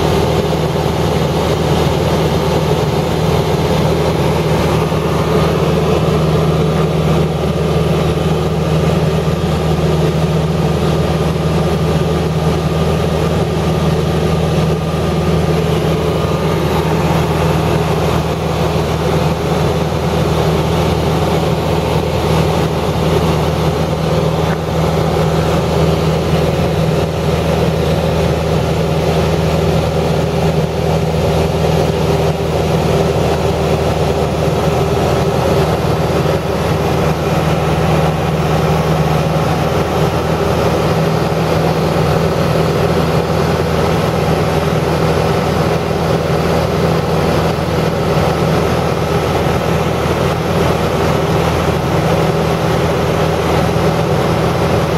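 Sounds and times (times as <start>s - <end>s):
low engine hum: 0.0s - 54.9s.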